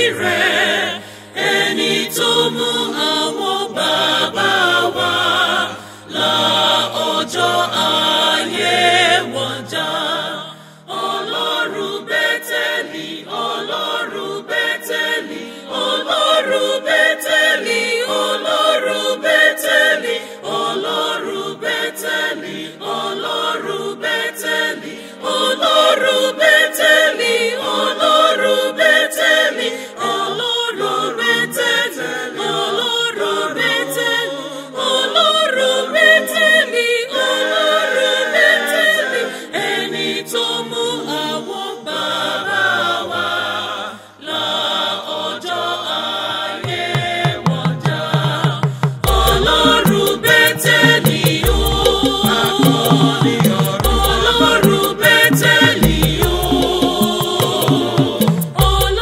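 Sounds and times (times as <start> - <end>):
mixed choir singing gospel: 0.0 - 59.0.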